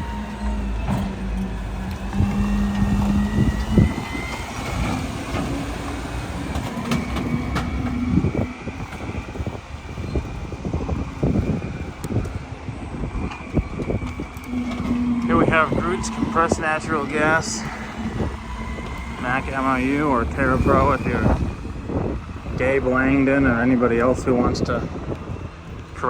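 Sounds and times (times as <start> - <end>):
garbage truck hum: 0.0 - 26.0.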